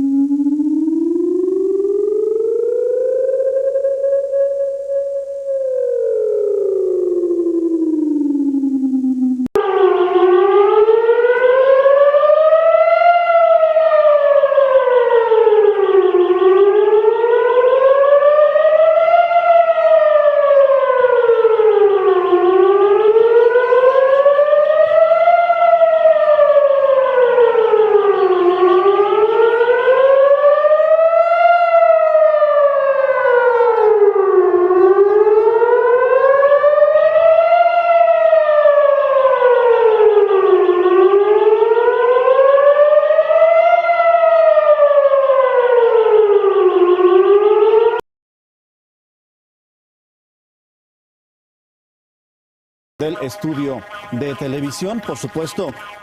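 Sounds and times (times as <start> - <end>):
warning siren wailing: 0.0 - 48.0, 53.0 - 56.0.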